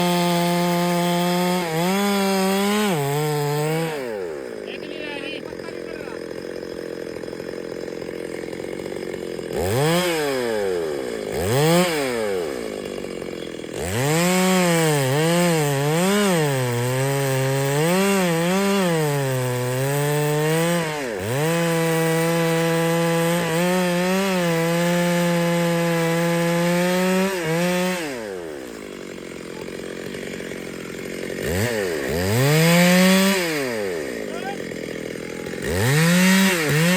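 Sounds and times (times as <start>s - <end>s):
chainsaw idling and revving: 0.0s - 36.9s.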